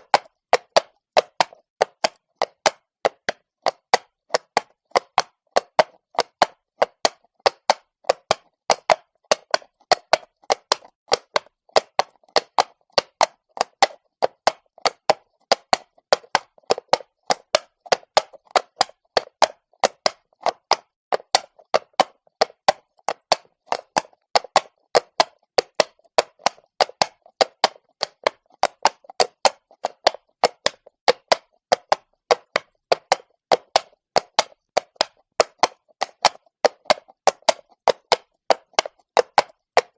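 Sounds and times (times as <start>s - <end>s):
horse hooves clopping on cobblestone: 0.0s - 39.9s.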